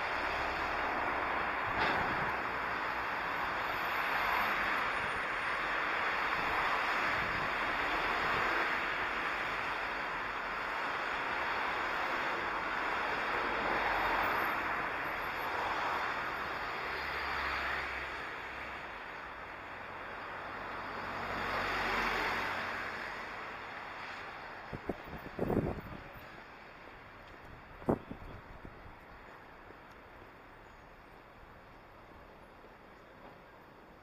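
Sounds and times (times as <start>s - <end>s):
road traffic hiss: 0.0s - 34.0s.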